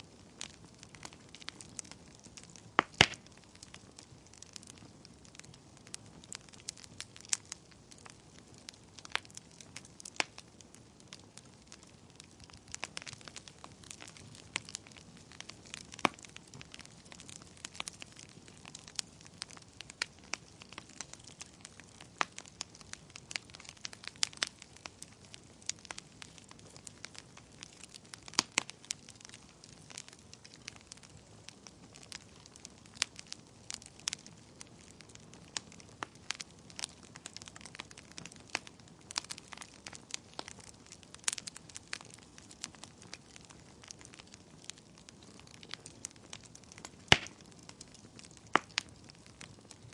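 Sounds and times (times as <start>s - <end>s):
soft hiss of burning: 0.0s - 49.9s
wood fire crackling and popping: 0.0s - 49.9s.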